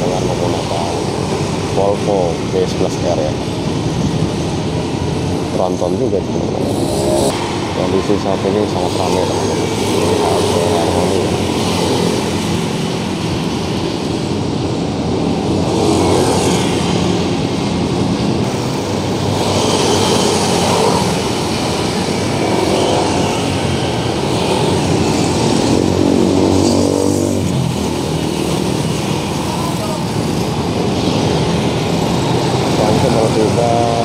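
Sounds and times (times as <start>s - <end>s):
motorcycles and cars passing: 0.0s - 34.0s.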